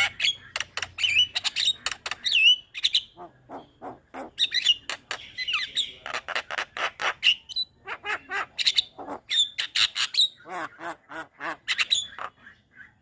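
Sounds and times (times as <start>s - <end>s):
bird chattering and squawking: 0.0s - 13.0s.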